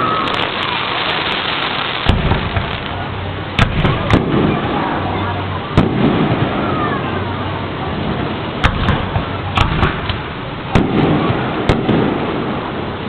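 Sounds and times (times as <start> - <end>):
fireworks bangs and pops: 0.0 - 7.3, 7.9 - 13.0
steady background noise: 0.0 - 13.0.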